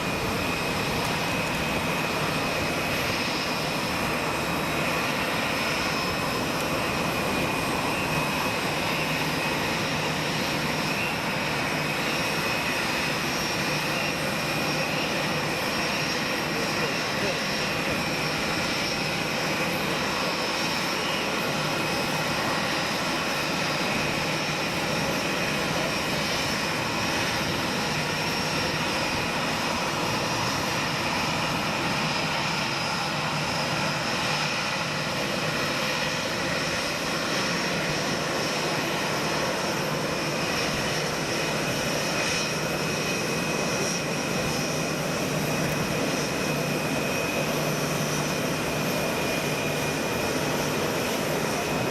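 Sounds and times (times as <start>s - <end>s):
jet engines running: 0.0s - 51.9s.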